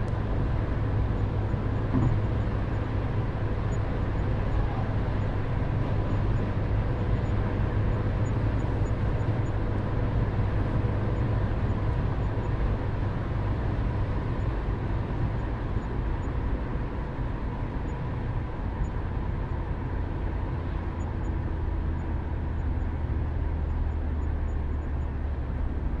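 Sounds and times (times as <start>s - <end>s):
car interior road noise: 0.0s - 26.0s.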